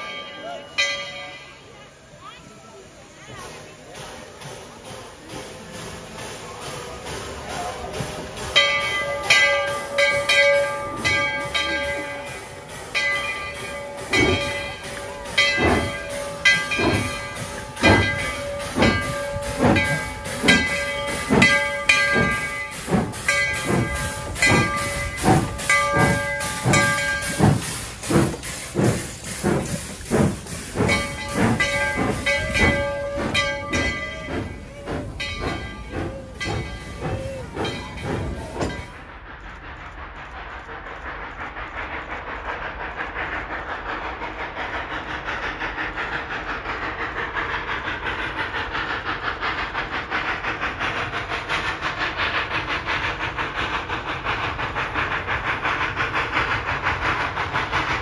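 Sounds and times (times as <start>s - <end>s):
steam hiss: 0.0s - 58.0s
steam locomotive chuffing: 0.0s - 58.0s.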